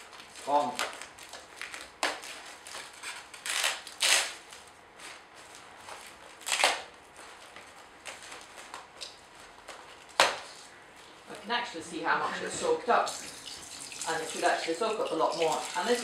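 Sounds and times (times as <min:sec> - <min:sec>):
aluminium foil crinkling: 0:00.0 - 0:11.2, 0:13.4 - 0:16.0.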